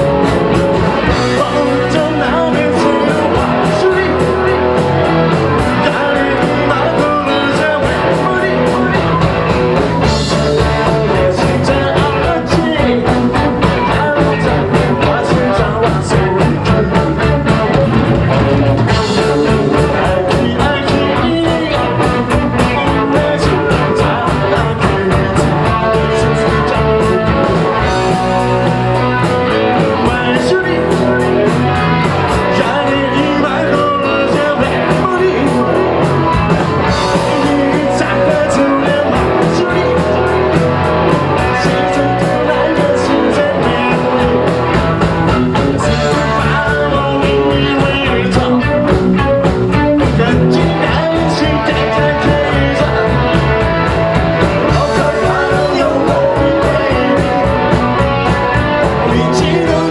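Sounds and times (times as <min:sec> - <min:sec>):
drums with fast beat: 0:00.0 - 0:59.9
electric guitars: 0:00.0 - 0:59.9
person singing: 0:00.0 - 0:59.9.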